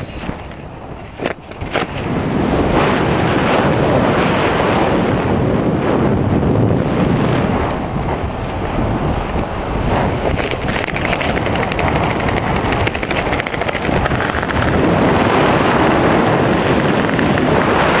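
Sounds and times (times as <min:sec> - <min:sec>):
wind roaring over microphone: 0:00.0 - 0:18.0.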